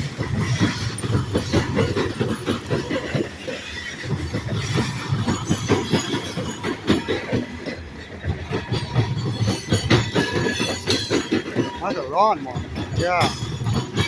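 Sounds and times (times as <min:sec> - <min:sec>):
train wheels clacking over rail joints: 0:00.0 - 0:14.0.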